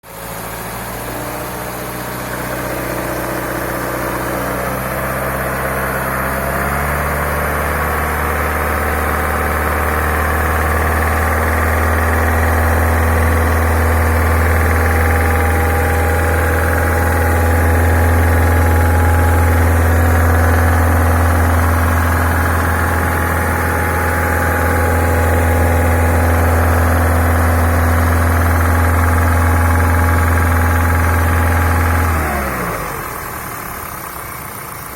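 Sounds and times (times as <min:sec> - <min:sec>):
car engine revving: 0:00.3 - 0:34.9.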